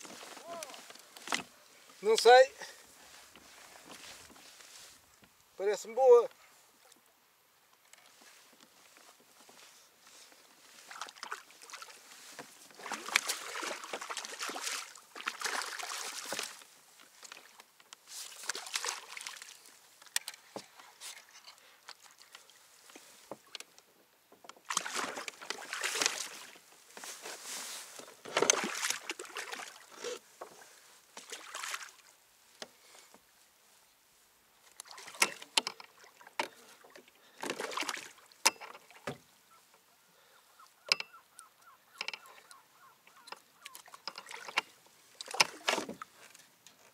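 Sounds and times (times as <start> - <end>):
water splashing and sloshing: 0.0 - 5.2, 7.8 - 33.4, 34.5 - 39.8, 40.6 - 46.9.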